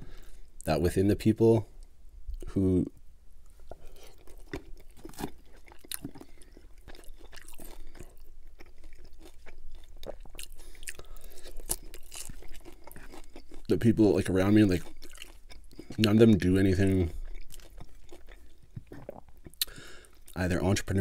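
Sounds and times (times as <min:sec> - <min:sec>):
close-miked wet chewing: 0:03.5 - 0:20.4.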